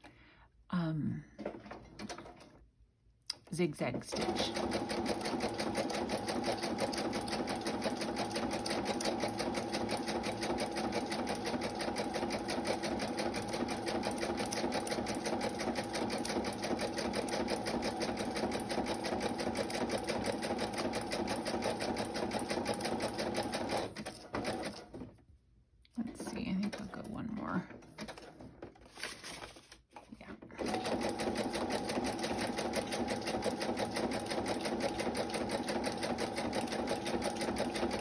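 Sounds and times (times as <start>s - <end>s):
sewing machine stitching: 4.1s - 25.1s, 26.1s - 28.6s, 30.5s - 38.0s.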